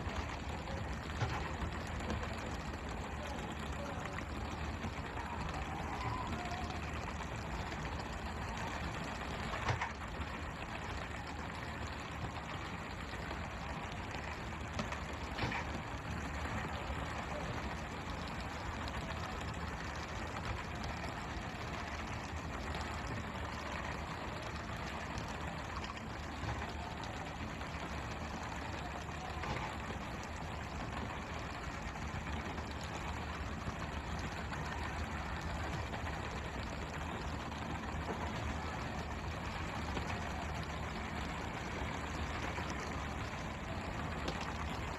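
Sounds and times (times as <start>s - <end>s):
boat engine running: 0.0s - 44.9s.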